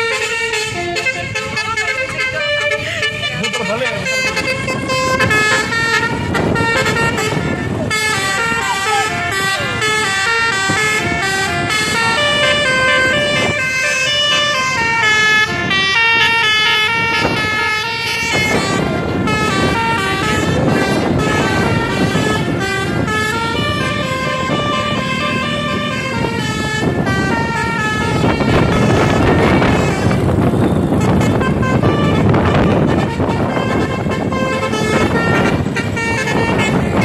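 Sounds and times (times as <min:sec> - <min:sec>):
bus air horn playing a tune: 0:00.0 - 0:37.0.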